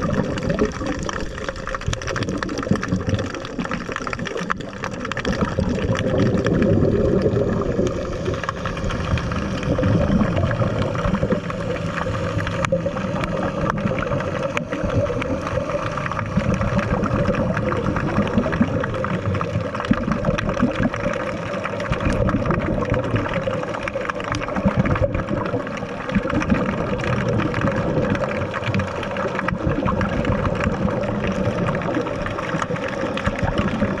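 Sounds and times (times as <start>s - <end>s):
underwater water noise: 0.0s - 34.0s
water gurgling: 0.0s - 34.0s
constant low hum: 6.5s - 34.0s.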